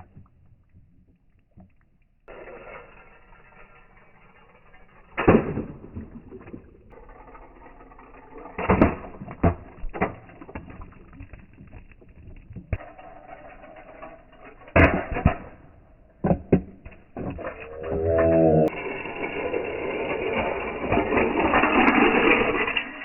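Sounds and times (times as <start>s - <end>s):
toy cars clattering and knocking: 2.3s - 15.6s, 16.2s - 23.0s.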